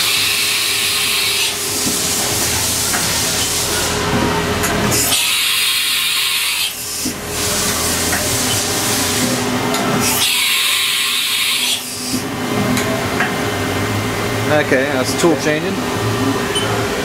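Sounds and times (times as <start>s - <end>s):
machining center cutting metal: 0.0s - 17.0s.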